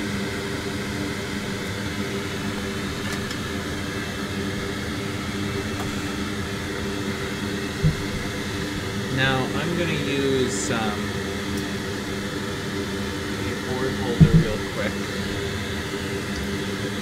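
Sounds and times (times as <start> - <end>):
extractor fan running: 0.0 - 17.0.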